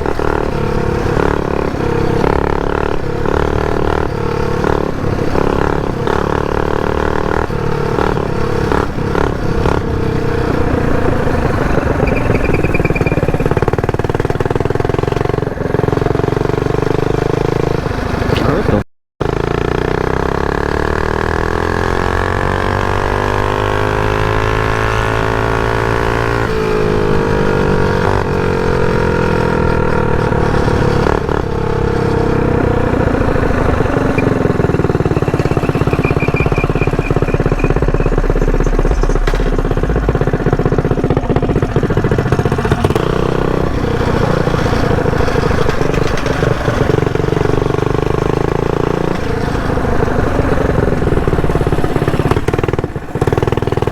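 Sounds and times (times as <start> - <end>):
small engine revving: 0.0 - 53.9.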